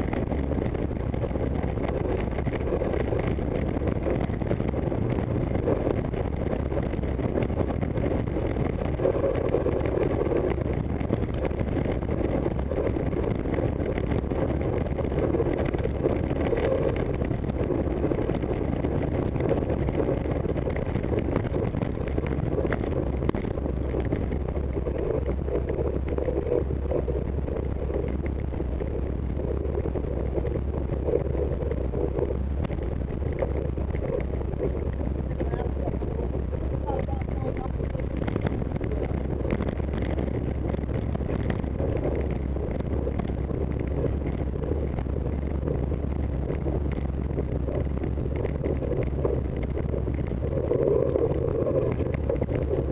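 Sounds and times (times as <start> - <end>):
bicycle tyres on rough pavement: 0.0 - 52.9
wind rush on microphone: 0.0 - 52.9.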